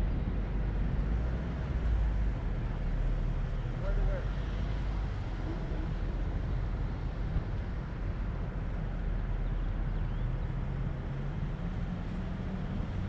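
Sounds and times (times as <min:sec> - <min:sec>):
road rumble: 0:00.0 - 0:13.0.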